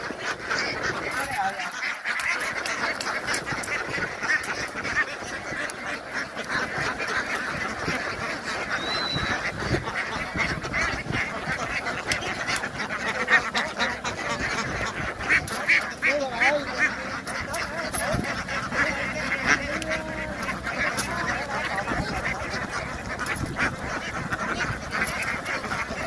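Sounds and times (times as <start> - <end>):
flock of ducks quacking: 0.0 - 26.0.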